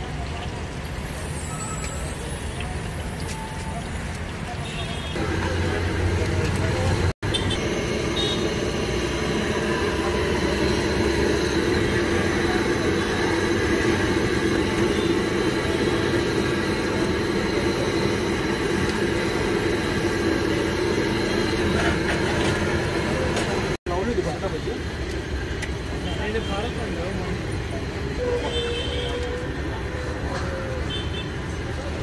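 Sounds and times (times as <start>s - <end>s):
food sizzling in hot oil: 0.0s - 27.6s
road traffic: 0.0s - 32.0s.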